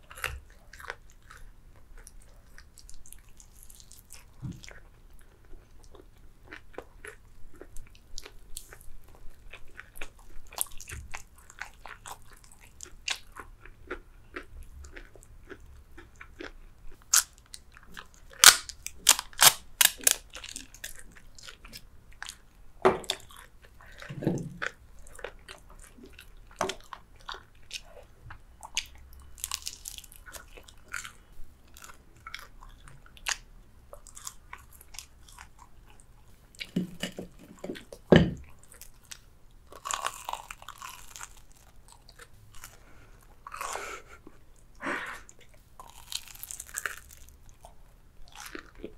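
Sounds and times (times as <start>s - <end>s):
crunching fried chicken: 0.0s - 36.8s, 37.8s - 44.2s, 45.4s - 48.9s.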